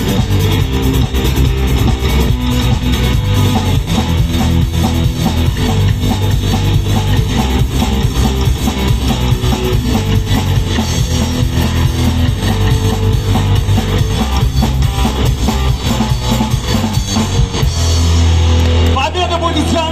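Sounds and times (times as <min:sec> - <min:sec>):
instrumental rock band music: 0:00.0 - 0:19.9.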